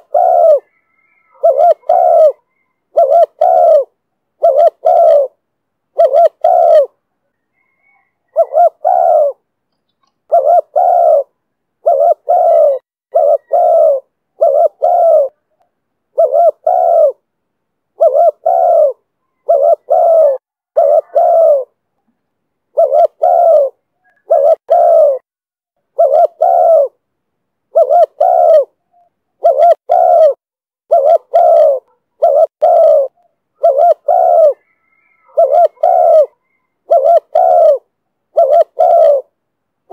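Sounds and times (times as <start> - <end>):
dove cooing: 0.0 - 17.3, 17.9 - 21.8, 22.7 - 25.3, 25.9 - 27.0, 27.7 - 39.9.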